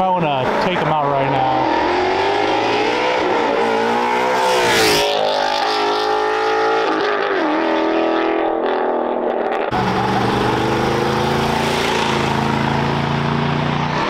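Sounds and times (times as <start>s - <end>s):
sports car accelerating past: 1.5s - 14.0s.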